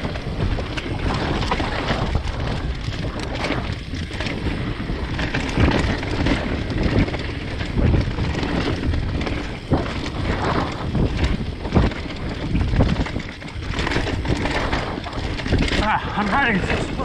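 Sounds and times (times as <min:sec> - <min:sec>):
bike rattling and knocking: 0:00.0 - 0:17.0
wind buffeting microphone: 0:00.0 - 0:17.0.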